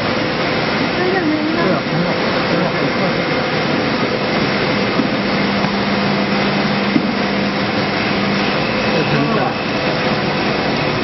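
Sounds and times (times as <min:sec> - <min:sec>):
low hum: 0:00.0 - 0:11.0
machine whine: 0:00.0 - 0:11.0.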